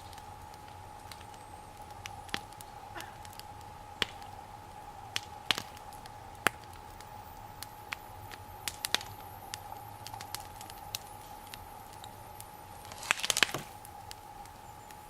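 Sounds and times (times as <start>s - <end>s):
faint steady tone: 0.0s - 15.0s
wood fire crackling: 0.0s - 15.0s.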